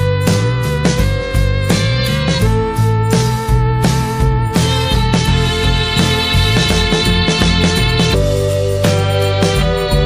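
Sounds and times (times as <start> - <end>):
instrumental music with plucked guitar: 0.0 - 10.0.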